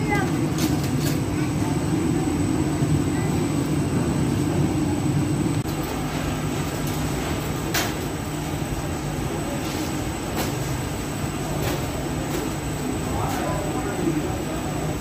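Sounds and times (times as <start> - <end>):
oven low mechanical hum: 0.0 - 15.0.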